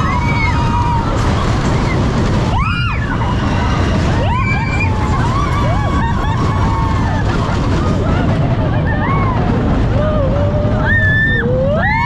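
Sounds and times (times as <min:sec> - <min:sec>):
riders whooping and screaming: 0:00.0 - 0:12.0
roller coaster rumbling: 0:00.0 - 0:12.0
wind: 0:00.0 - 0:12.0.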